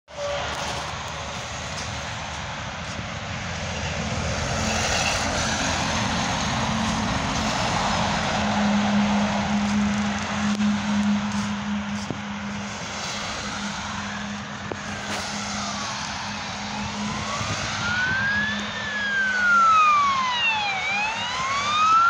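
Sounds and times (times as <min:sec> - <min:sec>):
lorry engine hum: 0:00.1 - 0:22.0
rushing tyre noise: 0:00.1 - 0:22.0.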